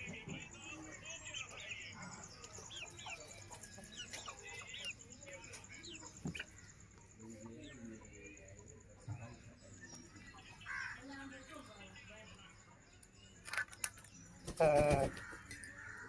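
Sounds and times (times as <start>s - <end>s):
birds chirping: 0.0s - 16.0s
faint voices: 0.0s - 16.0s.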